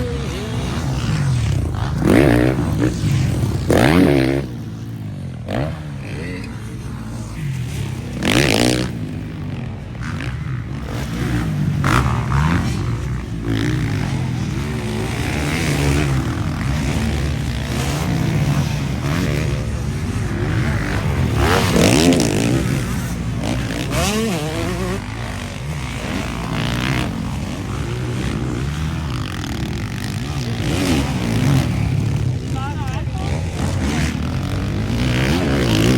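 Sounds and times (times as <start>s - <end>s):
motocross bikes revving past: 0.0s - 35.9s.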